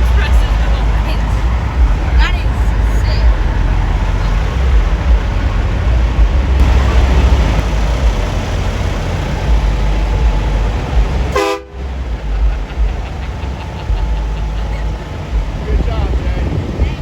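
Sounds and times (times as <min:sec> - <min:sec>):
truck engines idling: 0:00.0 - 0:17.0.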